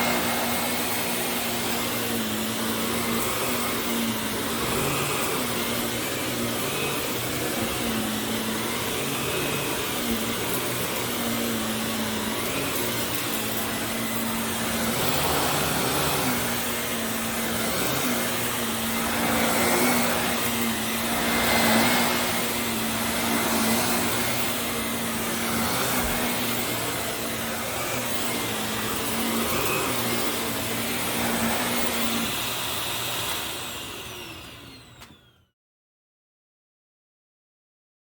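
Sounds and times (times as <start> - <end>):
vacuum cleaner running: 0.0 - 35.5
vacuum motor winding down: 0.0 - 35.5.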